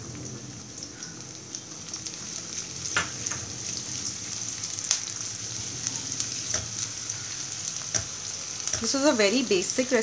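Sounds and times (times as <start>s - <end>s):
garlic and onion sizzling in oil: 0.0s - 10.0s.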